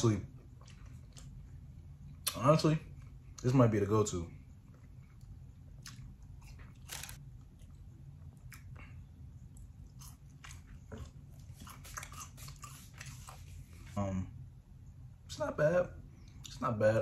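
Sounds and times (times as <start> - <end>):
faint chewing of crisp fries: 0.0 - 14.2.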